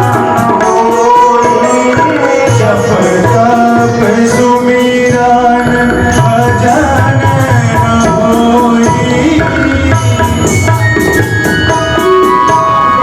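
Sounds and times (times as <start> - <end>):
person singing: 0.0 - 10.5
sustained melodic tones: 0.0 - 13.0
tabla beat: 0.0 - 13.0.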